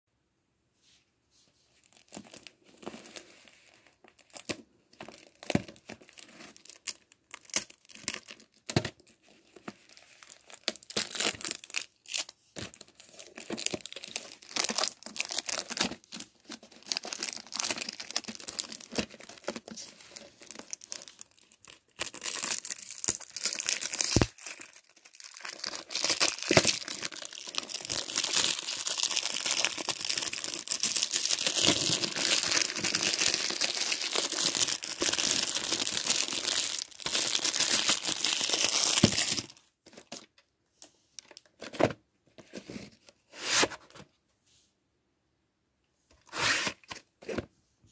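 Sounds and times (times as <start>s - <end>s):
plastic shrink-wrap crinkling: 1.8s - 40.3s.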